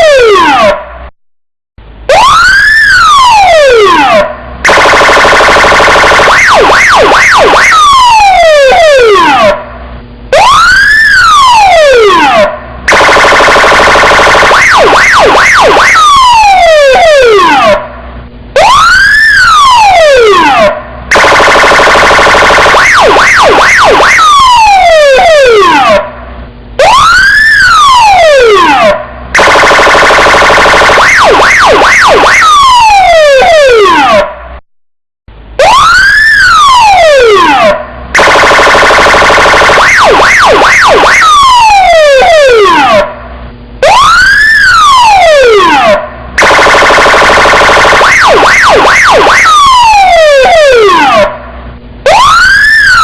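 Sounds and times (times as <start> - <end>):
police siren wailing: 0.0 - 1.0, 2.1 - 34.6, 35.5 - 53.0.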